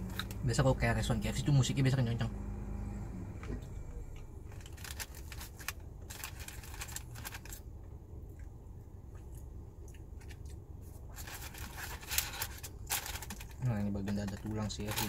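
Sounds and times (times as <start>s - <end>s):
faint low steady hum: 0.0s - 15.0s.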